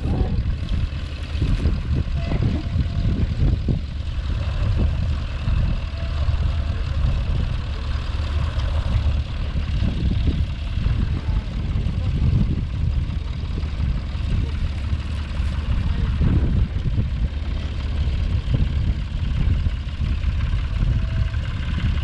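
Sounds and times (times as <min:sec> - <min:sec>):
tractor engine rumbling: 0:00.0 - 0:22.0.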